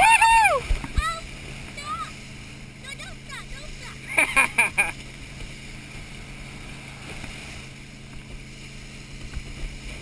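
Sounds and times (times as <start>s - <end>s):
motorboat engine running: 0.0s - 10.0s
wind and water noise on microphone: 0.0s - 10.0s.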